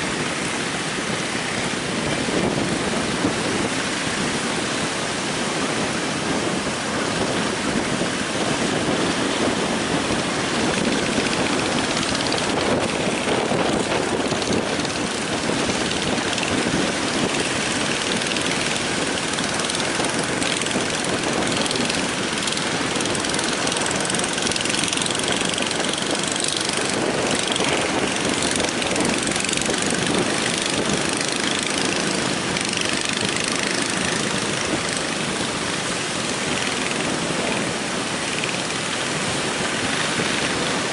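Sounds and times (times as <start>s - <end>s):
heavy surf breaking: 0.0s - 40.9s
strong wind: 0.0s - 40.9s.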